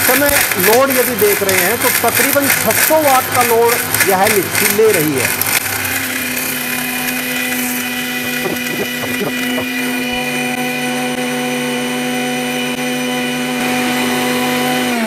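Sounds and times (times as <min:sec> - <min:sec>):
mixer grinder motor running: 0:00.0 - 0:15.0.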